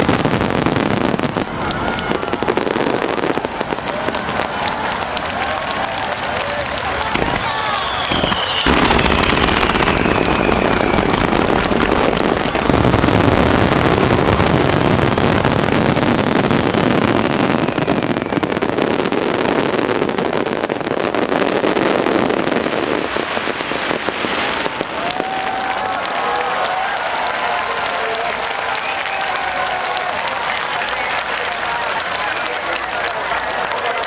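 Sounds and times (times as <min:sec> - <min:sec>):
fireworks bursts and crackling: 0:00.0 - 0:34.0.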